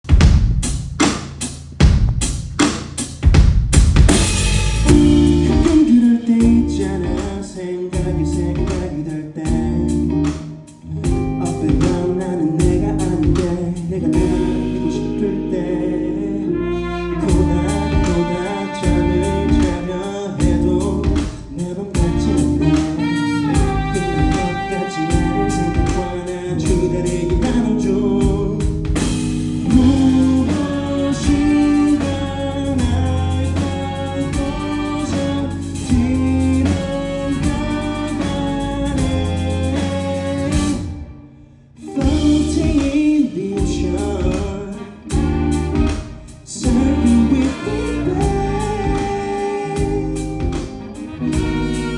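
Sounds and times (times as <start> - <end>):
drum kit beating: 0.0 - 15.5, 17.2 - 41.0, 41.8 - 51.9
guitar: 4.0 - 51.9
person singing: 4.9 - 41.2, 41.8 - 51.9.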